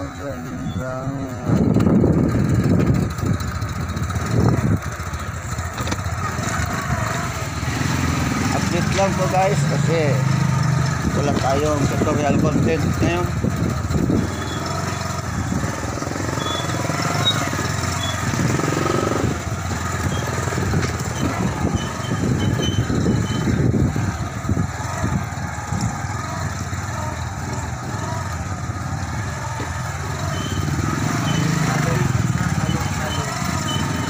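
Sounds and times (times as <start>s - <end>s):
motorcycle engine running: 0.0s - 34.0s
road noise: 0.0s - 34.0s.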